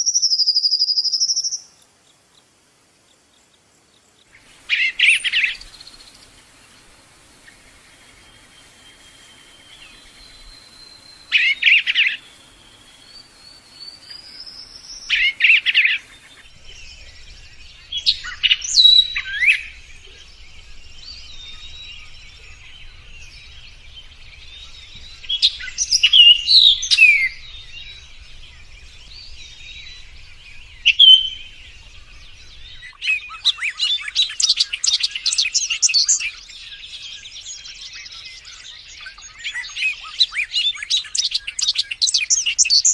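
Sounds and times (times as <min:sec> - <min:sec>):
lovebird chirping: 0:00.0 - 0:01.8, 0:04.6 - 0:42.9.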